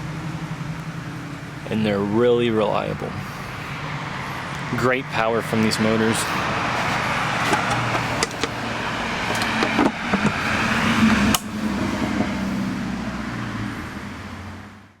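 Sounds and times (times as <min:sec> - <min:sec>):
outboard motor idling: 0:00.0 - 0:14.3.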